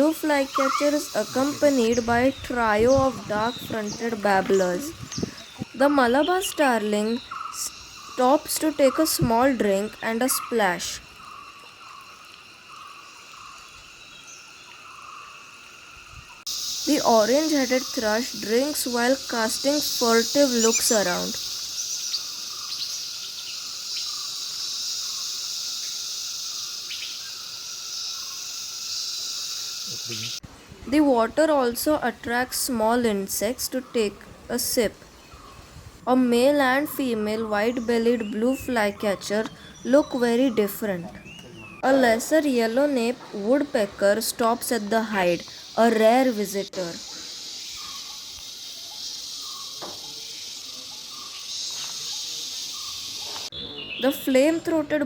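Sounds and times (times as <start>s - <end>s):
drone of forest insects: 0.0s - 30.7s, 36.6s - 54.8s.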